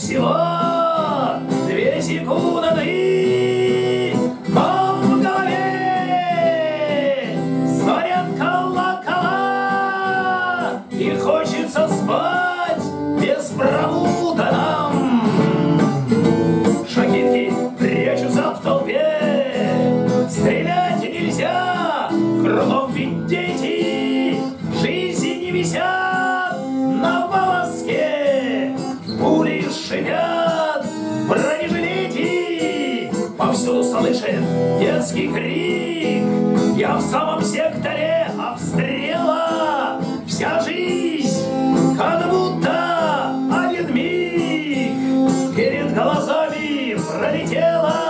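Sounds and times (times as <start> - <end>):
acoustic guitar strumming: 0.0 - 48.0
man singing: 0.0 - 48.0.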